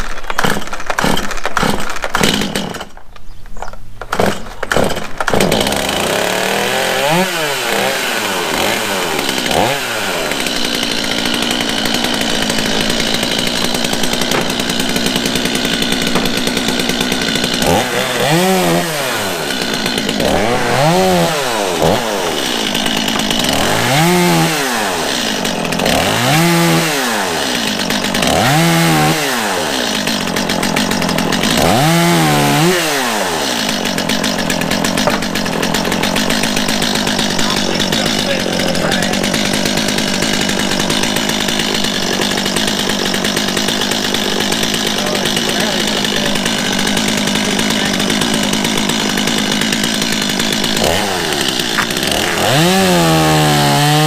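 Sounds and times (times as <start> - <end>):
chainsaw revving: 0.0 - 3.0, 4.0 - 54.0.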